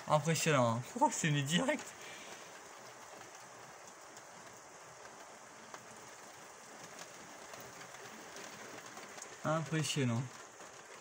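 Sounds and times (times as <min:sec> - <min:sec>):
raindrops ticking nearby: 0:00.0 - 0:11.0
steady rain falling: 0:00.0 - 0:11.0.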